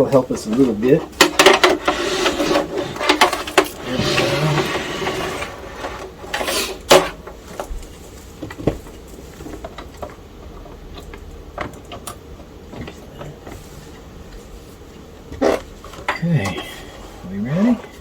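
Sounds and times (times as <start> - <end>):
cables rustling: 0.0 - 18.0.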